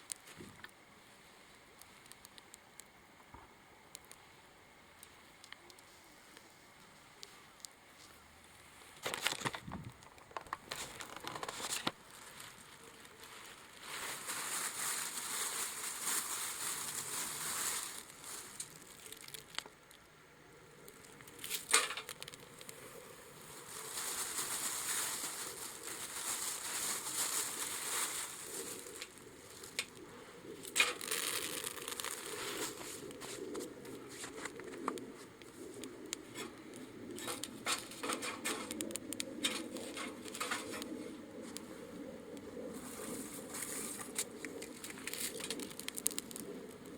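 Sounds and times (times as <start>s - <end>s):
wood fire crackling: 0.0s - 46.9s
fire popping: 1.6s - 7.8s, 9.0s - 46.9s.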